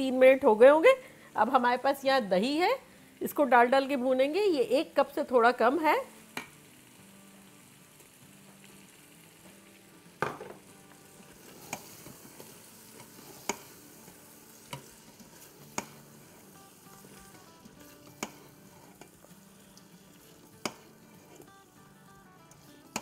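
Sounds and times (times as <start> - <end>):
food sizzling: 0.0 - 23.0.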